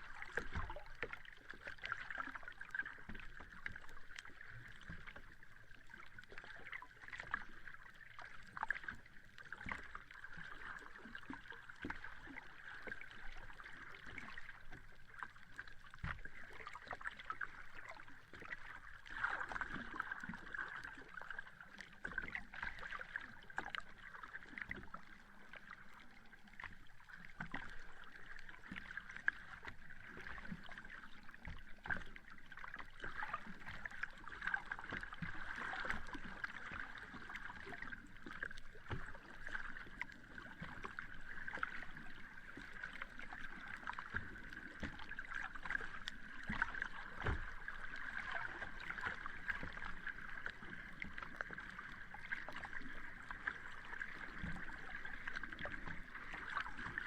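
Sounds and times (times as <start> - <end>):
sea water lapping at shore: 0.0 - 57.0.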